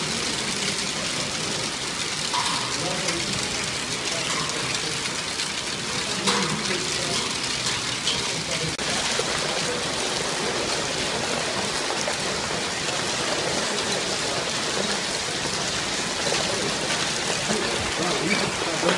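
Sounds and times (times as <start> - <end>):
heavy rain and hail on roof tiles: 0.0 - 18.9.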